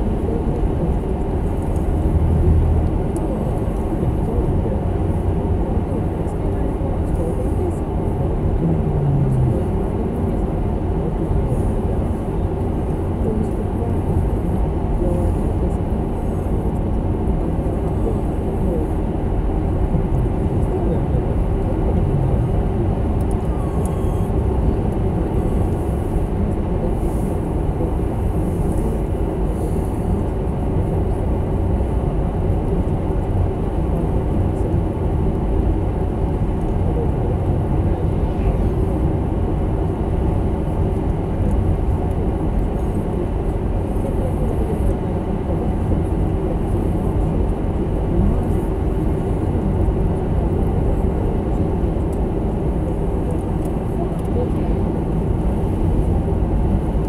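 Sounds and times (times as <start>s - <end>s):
car cabin road and engine noise: 0.0s - 57.0s.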